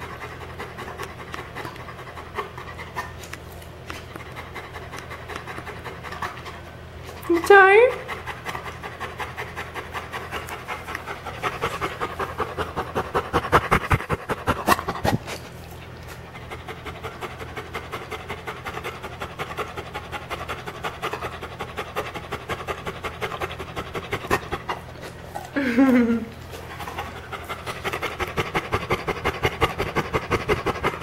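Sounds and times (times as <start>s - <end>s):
dog panting fast: 0.0s - 31.0s.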